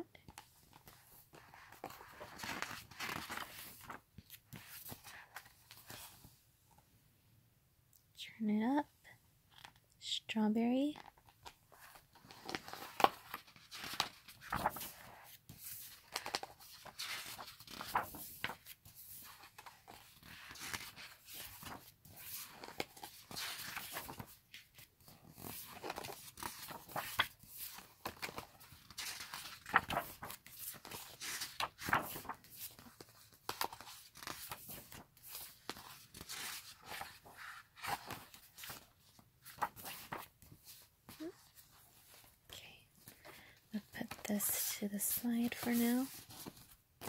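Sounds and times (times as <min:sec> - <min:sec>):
paper pages swishing and rustling: 0:00.4 - 0:06.3, 0:11.0 - 0:42.4, 0:44.0 - 0:46.8.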